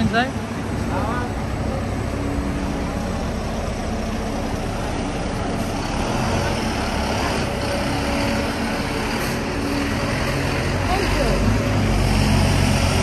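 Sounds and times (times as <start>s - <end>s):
bus engine rumbling: 0.0s - 13.0s
street noise: 0.0s - 13.0s.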